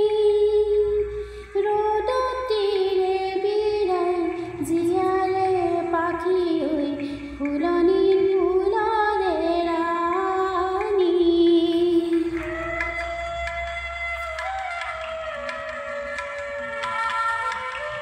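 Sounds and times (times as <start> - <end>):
woman singing slow melody: 0.0 - 18.0.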